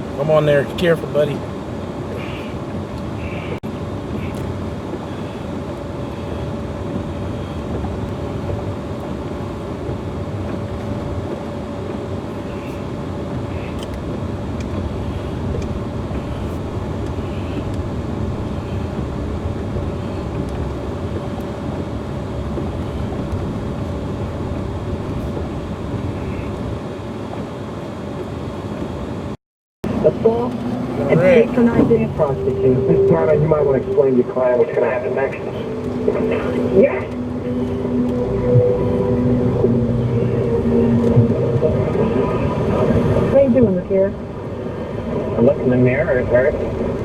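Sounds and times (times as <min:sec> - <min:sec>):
vehicle engine running with whine: 0:00.0 - 0:47.0.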